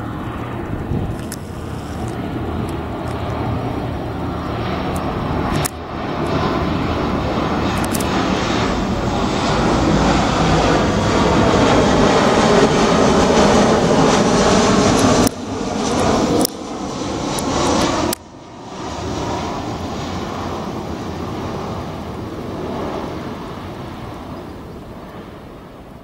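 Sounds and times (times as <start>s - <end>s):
airliner engines roaring: 0.0s - 26.0s.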